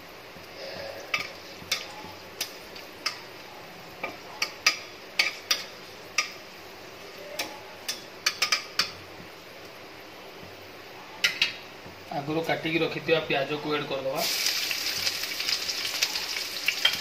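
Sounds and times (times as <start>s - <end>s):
spices frying in hot oil: 0.0s - 17.0s.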